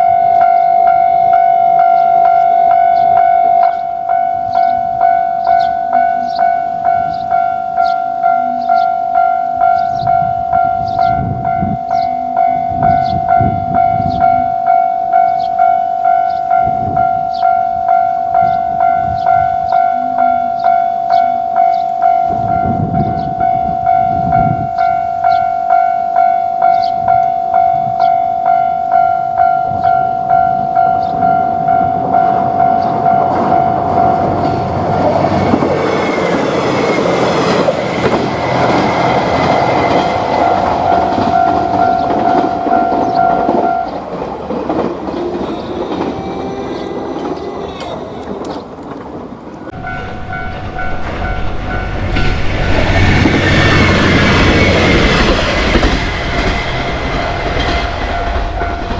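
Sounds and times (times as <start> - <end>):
level crossing warning bell: 0.0 - 48.2, 49.7 - 58.9
diesel train passing: 0.0 - 58.9.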